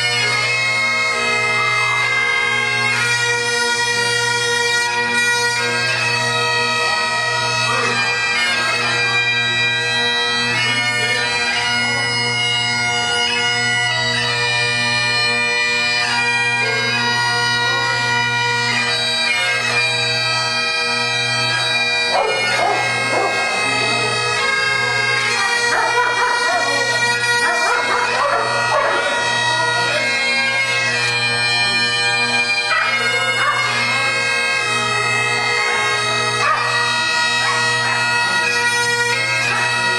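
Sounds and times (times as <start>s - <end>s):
bagpipes playing a tune: 0.0s - 39.9s.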